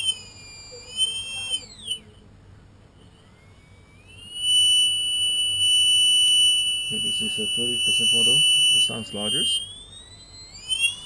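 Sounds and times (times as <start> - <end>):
drone motor high-pitched whine: 0.0 - 2.2, 3.0 - 11.0.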